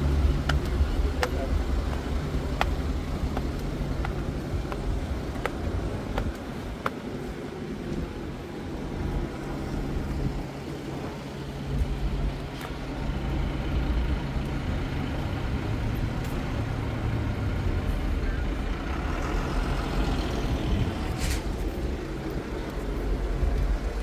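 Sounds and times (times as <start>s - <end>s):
large engine running: 0.0s - 24.0s
outdoor noise: 0.0s - 24.0s.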